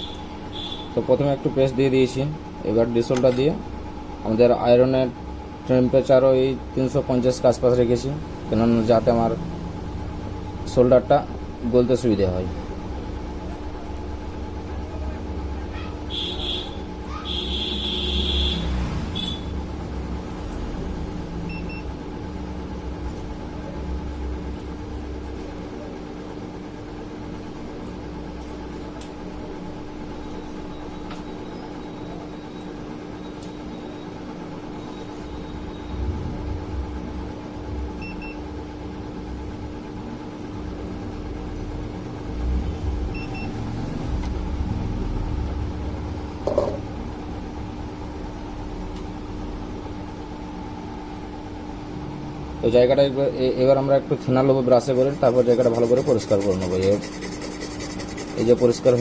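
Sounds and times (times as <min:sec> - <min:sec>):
machine hum with low rumble: 0:00.0 - 0:59.0.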